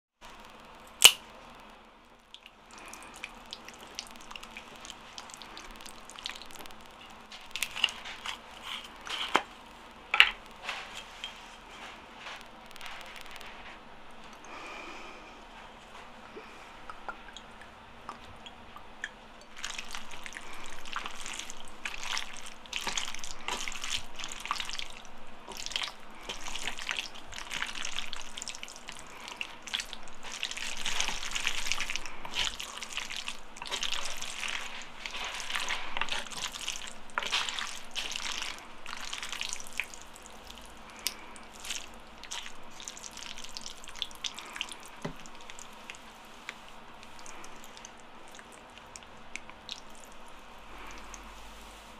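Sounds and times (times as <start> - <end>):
wet squishing of noodles mixed: 0.2 - 51.9.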